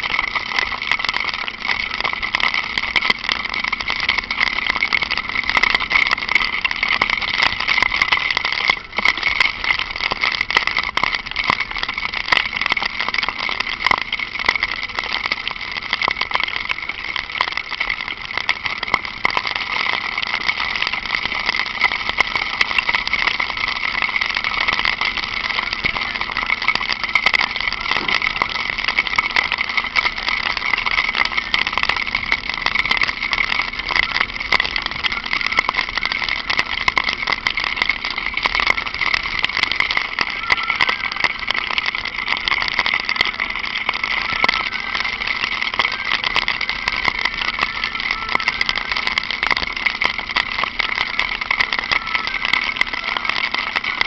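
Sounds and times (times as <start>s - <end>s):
light rain hiss: 0.0s - 54.0s
motorcycle engine running: 0.0s - 54.0s
small clicks: 0.0s - 54.0s.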